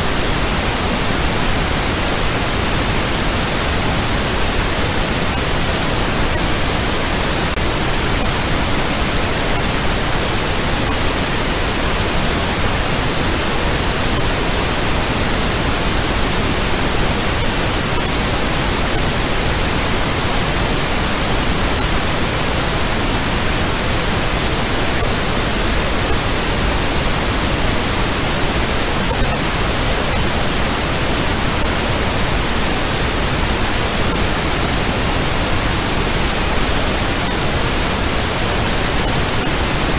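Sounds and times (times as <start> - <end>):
static noise hiss: 0.0 - 39.9.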